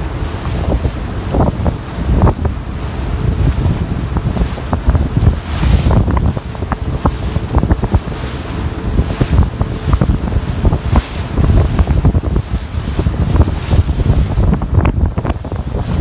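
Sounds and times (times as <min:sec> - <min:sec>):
sea wash: 0:00.0 - 0:16.0
wind buffeting microphone: 0:00.0 - 0:16.0.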